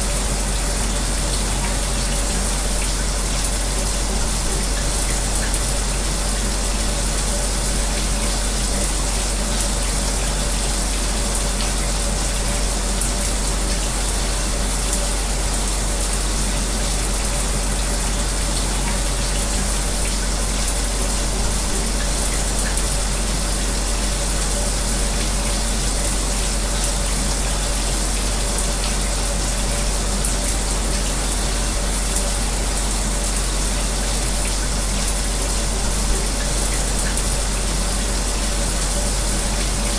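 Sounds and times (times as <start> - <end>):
electric fan humming: 0.0 - 39.9.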